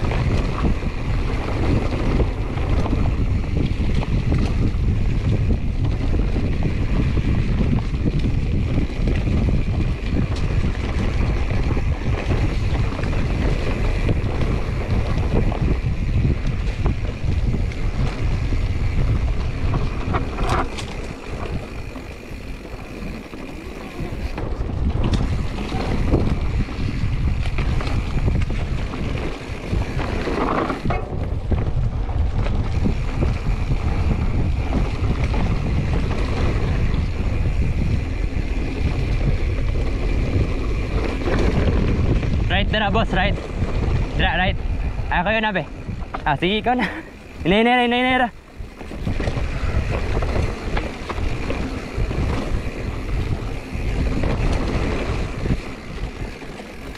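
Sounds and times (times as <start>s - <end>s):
bike rattling over dirt: 0.0s - 56.9s
wind on microphone: 0.0s - 56.9s.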